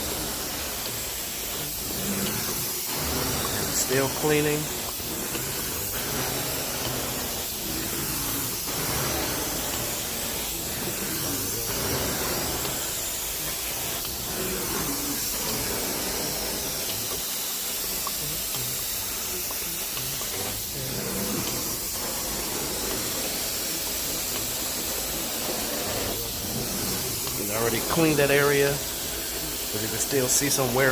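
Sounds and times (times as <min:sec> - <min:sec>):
extraction wand spraying and sucking: 0:00.0 - 0:30.9.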